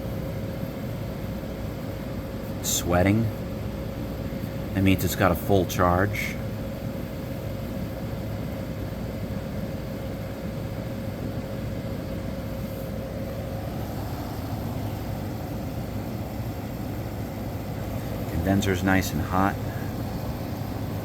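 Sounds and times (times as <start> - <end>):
air conditioner compressor hum: 0.0 - 21.0
fan rushing: 0.0 - 21.0.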